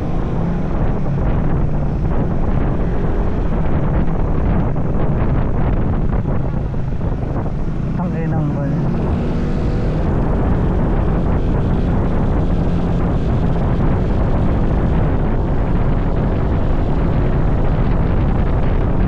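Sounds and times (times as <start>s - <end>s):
vehicle engine drone: 0.0s - 19.0s
wind noise on microphone: 0.0s - 19.0s.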